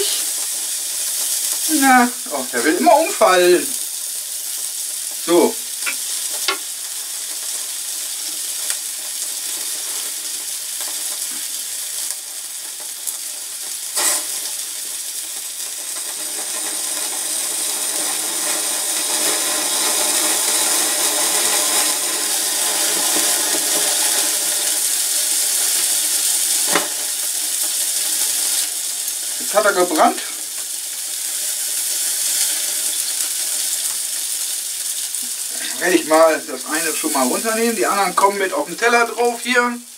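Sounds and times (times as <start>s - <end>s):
gas burner hissing: 0.0s - 39.9s
meat sizzling on grill: 0.0s - 39.9s.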